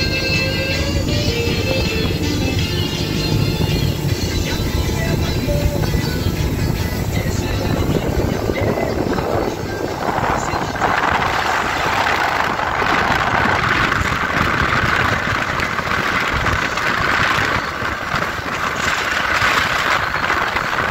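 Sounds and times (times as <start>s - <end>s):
motorboat engine running: 0.0s - 20.9s
rushing water noise: 0.0s - 20.9s.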